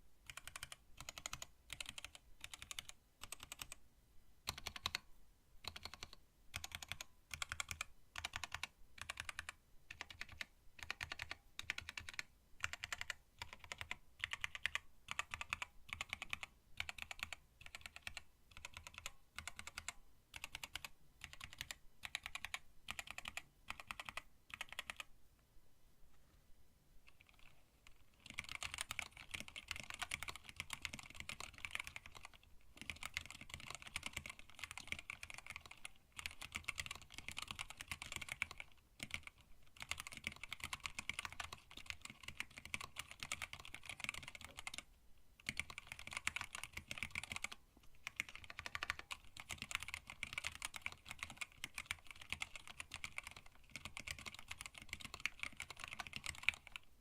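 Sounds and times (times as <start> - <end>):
fast typing on mechanical keyboard: 0.2 - 3.8, 4.5 - 25.1, 27.1 - 56.9.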